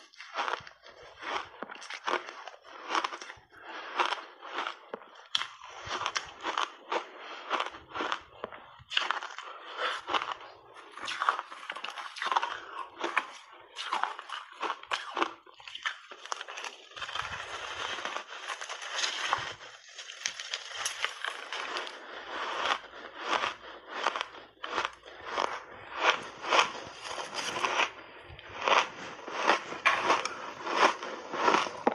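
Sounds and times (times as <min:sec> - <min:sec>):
ice crunching while chewed: 0:00.0 - 0:31.9.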